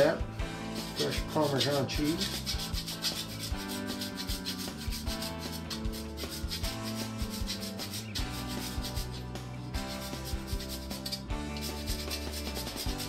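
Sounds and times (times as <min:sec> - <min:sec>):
cheese grating strokes: 0:00.7 - 0:13.0.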